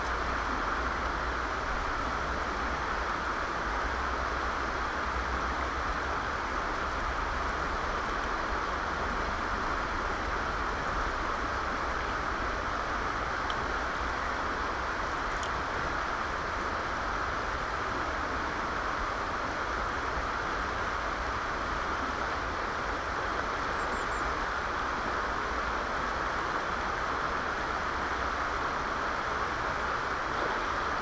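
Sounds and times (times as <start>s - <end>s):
river water over rapids: 0.0s - 31.0s.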